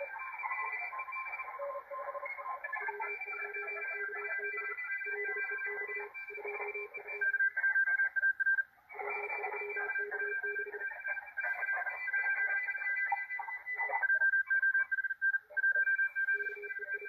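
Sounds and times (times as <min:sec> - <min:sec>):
overlapping morse code tones: 0:00.0 - 0:17.0.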